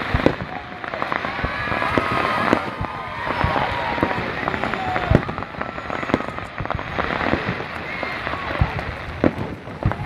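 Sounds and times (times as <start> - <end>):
fireworks crackling: 0.0 - 10.0
heavy firework bangs: 0.0 - 10.0.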